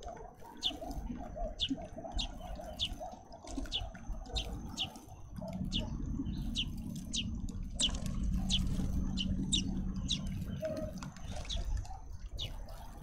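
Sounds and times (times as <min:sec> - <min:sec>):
low steady hum: 0:00.0 - 0:13.0
young bird begging chirps: 0:00.5 - 0:00.9, 0:01.5 - 0:12.6.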